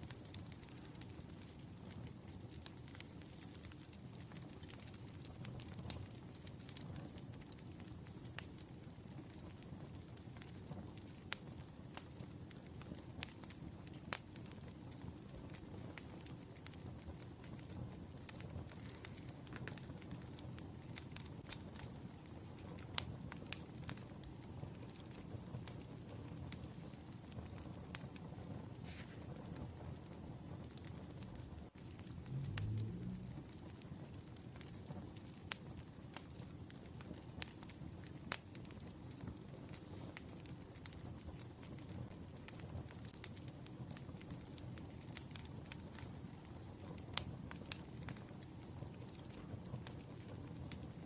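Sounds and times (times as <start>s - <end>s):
low rumble of burning logs: 0.0s - 51.0s
wood fire crackling: 0.0s - 51.0s.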